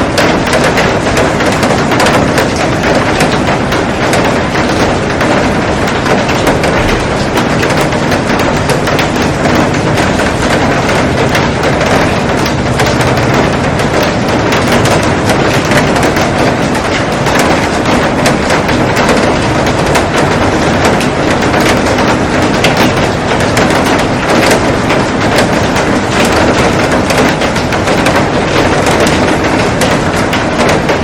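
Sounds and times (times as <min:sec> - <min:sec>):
heavy rain on glass roof: 0:00.0 - 0:31.0.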